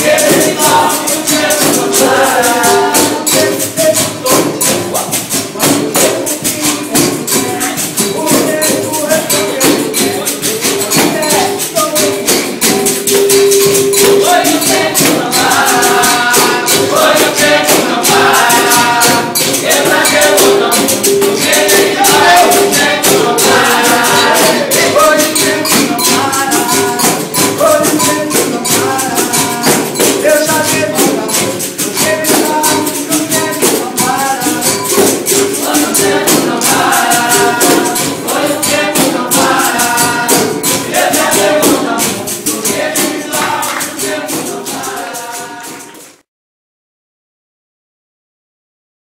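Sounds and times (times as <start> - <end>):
group singing: 0.0 - 46.2
rattling percussion: 0.0 - 46.2
hand clapping: 2.4 - 46.2.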